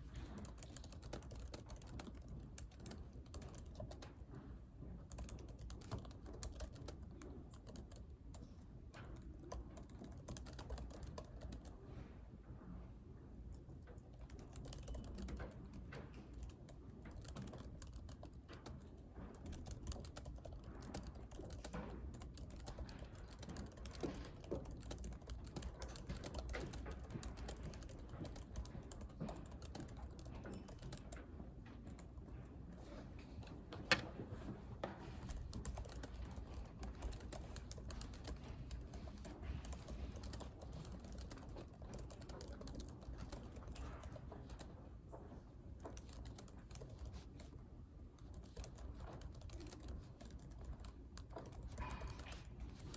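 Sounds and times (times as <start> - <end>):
typing on computer keyboard: 0.0 - 4.3, 5.0 - 11.8, 13.6 - 32.4, 35.2 - 44.8, 45.8 - 52.9
low room hum: 0.0 - 52.9.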